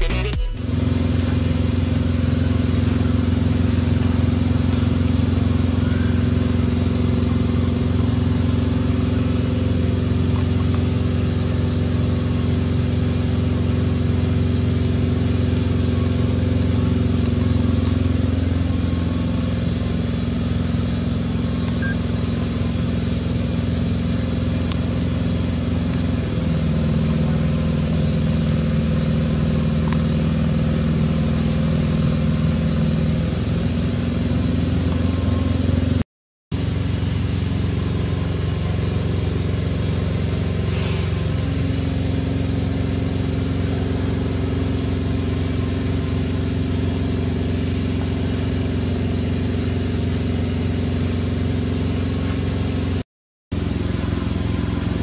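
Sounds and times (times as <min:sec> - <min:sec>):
low engine hum: 0:00.0 - 0:55.0.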